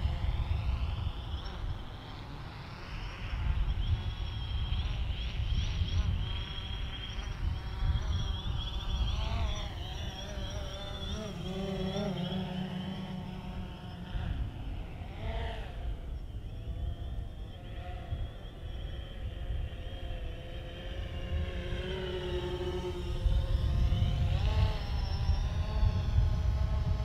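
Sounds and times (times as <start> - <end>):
drone propellers whining: 0.0 - 27.0
steady low hum: 0.0 - 27.0.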